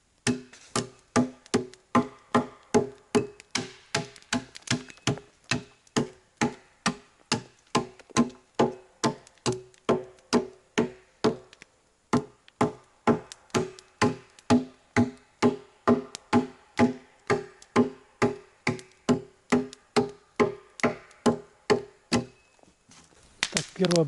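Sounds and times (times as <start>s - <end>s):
axe chopping log: 0.2s - 22.4s.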